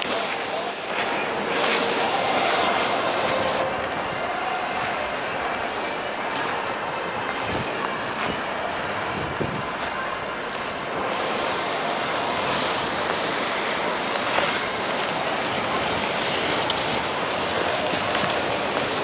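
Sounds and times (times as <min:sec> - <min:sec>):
din of skaters: 0:00.0 - 0:19.0
ice skate blades scraping: 0:00.0 - 0:19.0.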